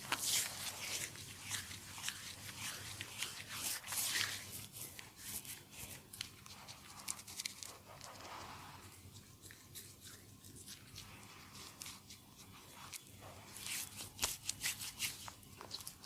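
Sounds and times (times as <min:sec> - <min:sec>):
hands rubbing skin: 0:00.0 - 0:16.0.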